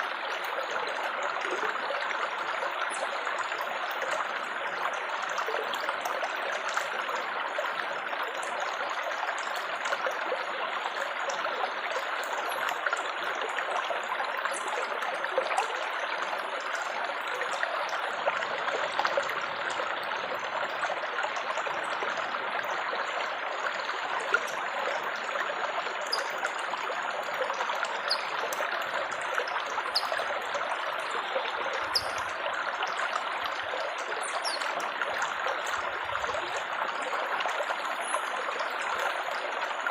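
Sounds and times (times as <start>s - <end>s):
water babbling and splashing: 0.0s - 39.9s.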